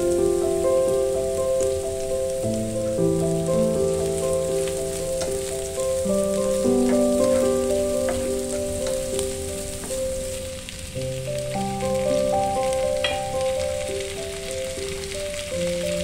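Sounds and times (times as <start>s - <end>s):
onions and garlic sizzling in oil: 0.0s - 16.0s
soft melodic background tune: 0.0s - 16.0s.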